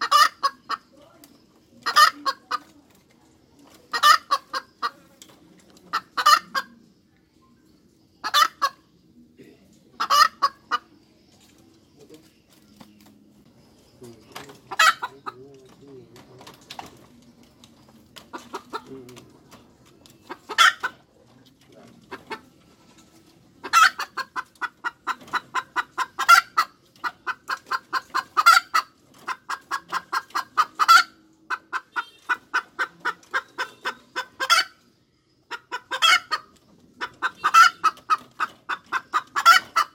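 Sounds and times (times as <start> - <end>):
hen cackling and clucking: 0.0 - 7.1, 7.9 - 39.9.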